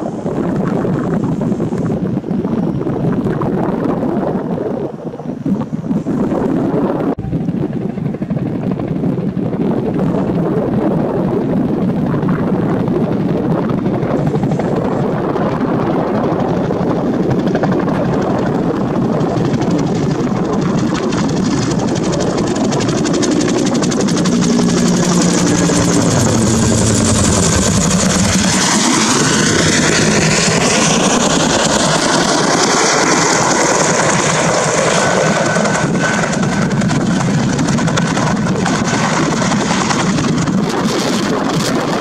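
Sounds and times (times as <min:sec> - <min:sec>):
helicopter rotor beating: 0:00.0 - 0:42.0.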